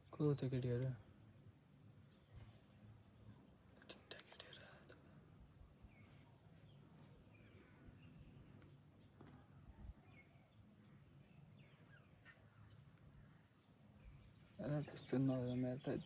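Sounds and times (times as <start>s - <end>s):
faint high insect drone: 0.0s - 16.0s
faint bird chirps: 2.0s - 16.0s.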